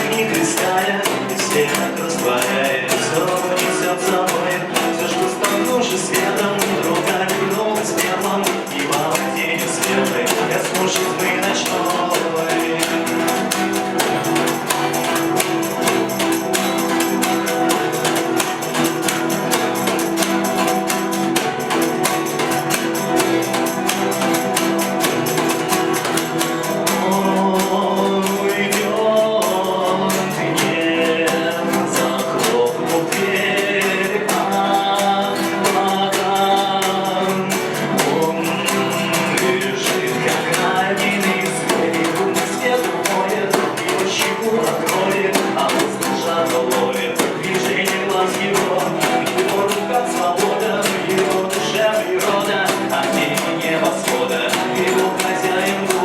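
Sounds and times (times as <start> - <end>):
acoustic guitars strumming: 0.0 - 56.0
hand percussion: 0.0 - 56.0
man singing: 0.0 - 56.0.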